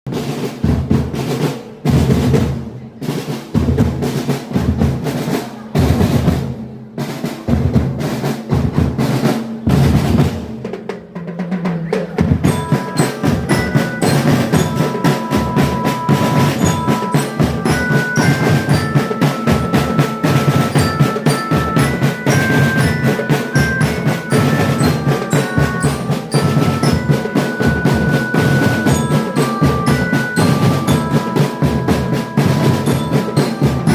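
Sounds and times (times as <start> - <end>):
marching band melody: 0.1 - 33.9
snare and bass drums: 0.1 - 33.9.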